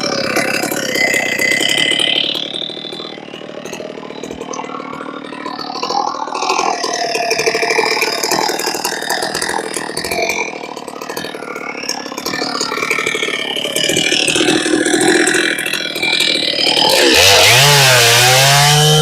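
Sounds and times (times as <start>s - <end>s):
chainsaw cutting through log: 0.0s - 19.0s.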